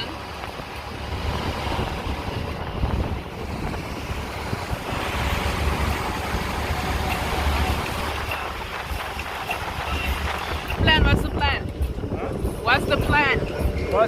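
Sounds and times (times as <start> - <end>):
low rumble: 0.0 - 14.0
water rushing past: 0.0 - 14.0
wind buffeting microphone: 0.0 - 14.0.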